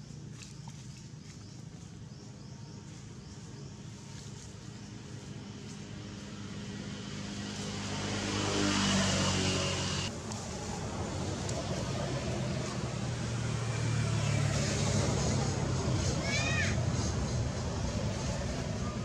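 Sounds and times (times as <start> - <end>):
vehicle engine running: 2.7 - 19.0.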